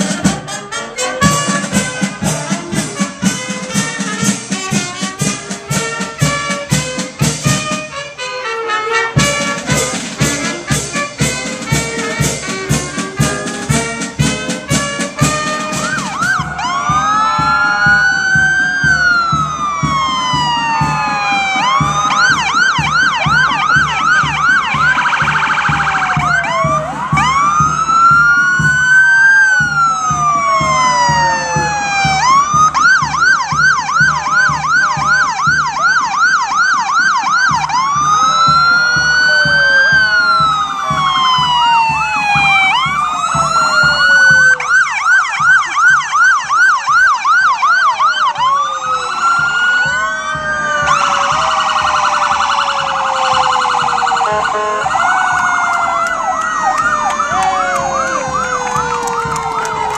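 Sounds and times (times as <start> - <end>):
sirens wailing and yelping: 0.0 - 59.9.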